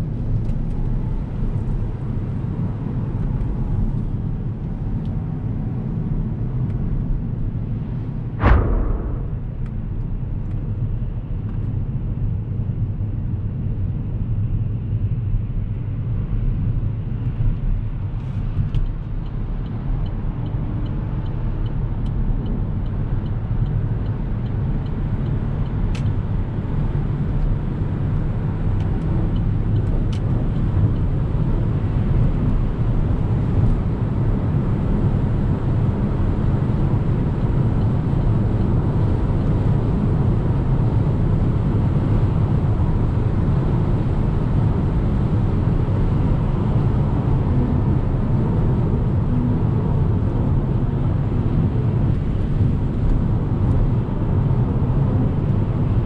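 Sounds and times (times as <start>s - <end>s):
tyre and wind rumble inside car: 0.0s - 56.0s.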